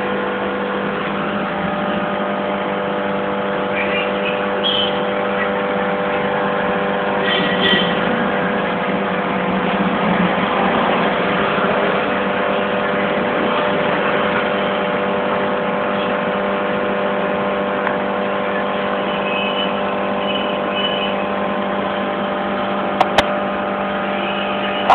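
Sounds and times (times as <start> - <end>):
air pump humming: 0.0 - 24.9.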